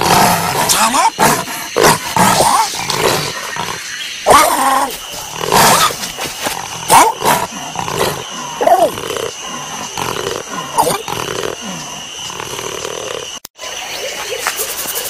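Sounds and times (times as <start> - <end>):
tiger cub growling and roaring: 0.0 - 13.4.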